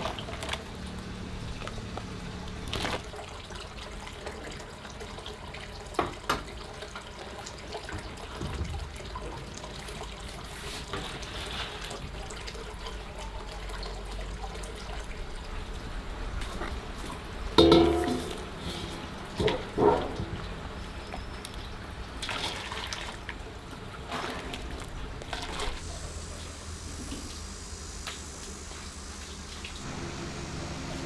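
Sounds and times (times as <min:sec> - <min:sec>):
water running and splashing: 0:00.0 - 0:31.0.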